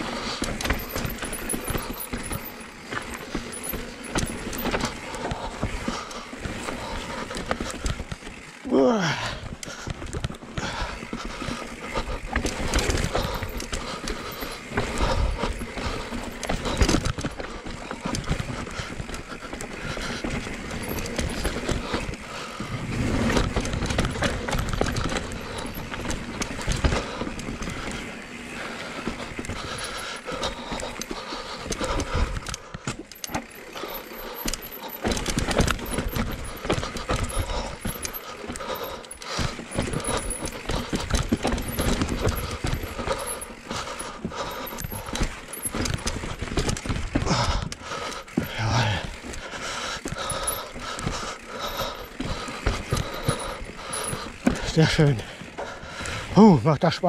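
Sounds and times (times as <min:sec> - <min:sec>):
bike knocks and rattles over bumps: 0:00.0 - 0:56.4
mountain bike tyres on dirt and rock: 0:00.0 - 0:57.0.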